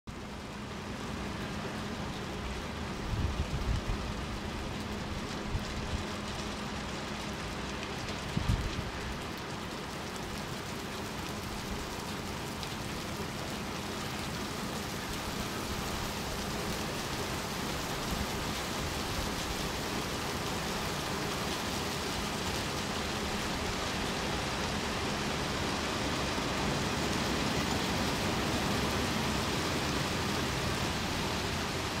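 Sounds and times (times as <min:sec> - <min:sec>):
rain shower falling: 0:00.1 - 0:32.0.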